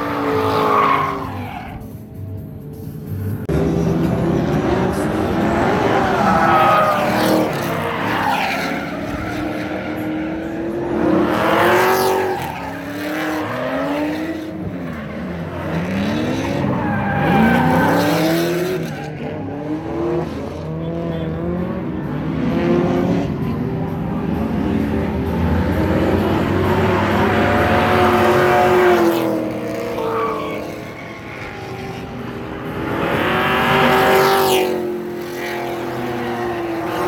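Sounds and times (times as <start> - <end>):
car engines revving: 0.0 - 37.0
tyres skidding: 0.0 - 37.0.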